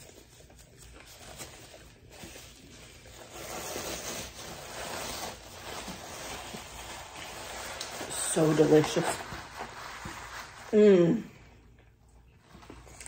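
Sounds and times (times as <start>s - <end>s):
paper napkin rustling: 0.0s - 11.2s.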